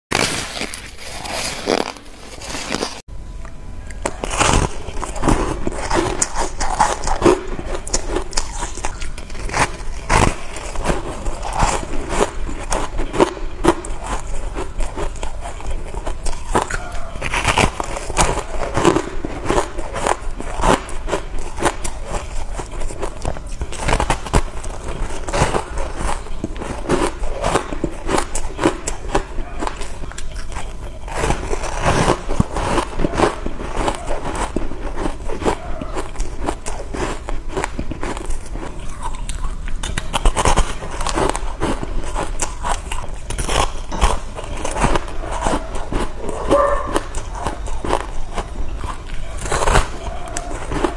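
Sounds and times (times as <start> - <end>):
crunching and chewing ice: 0.1 - 50.9.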